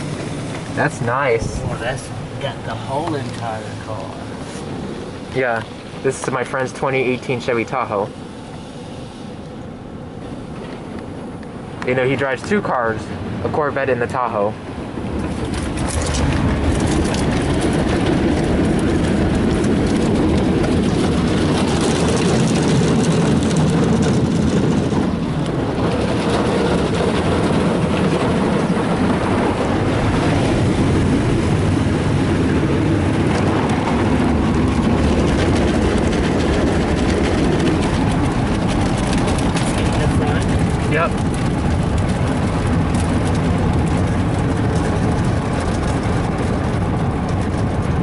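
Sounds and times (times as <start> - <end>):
car wash water spray rumble: 0.0 - 48.0.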